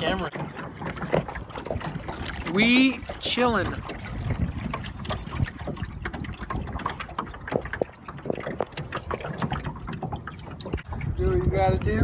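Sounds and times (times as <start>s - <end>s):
water lapping against a hull: 0.0s - 12.0s
wind rumbling on microphone: 0.0s - 12.0s.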